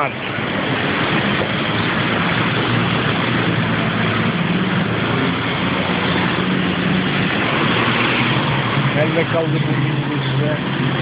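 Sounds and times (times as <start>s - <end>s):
motor vehicle engine running: 0.0s - 11.0s.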